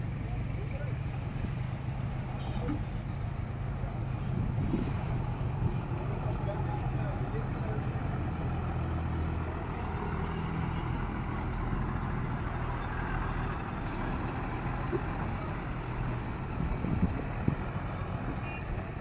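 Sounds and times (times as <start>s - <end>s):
bus diesel engine humming: 0.0s - 19.0s.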